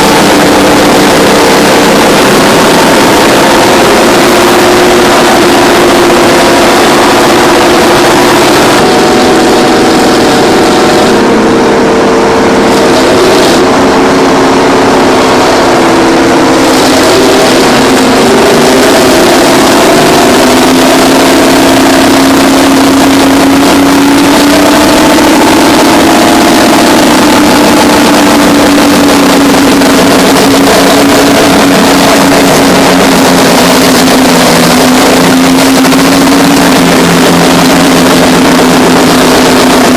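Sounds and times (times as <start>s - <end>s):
bulldozer diesel engines under load: 0.0s - 39.9s.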